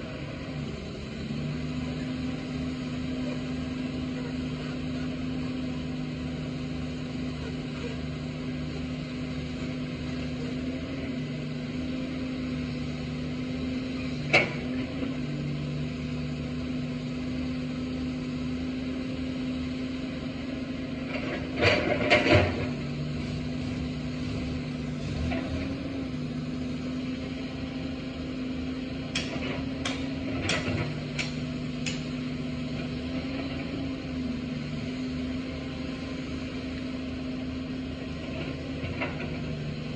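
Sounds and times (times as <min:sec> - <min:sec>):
excavator engine and hydraulics droning: 0:00.0 - 0:39.9.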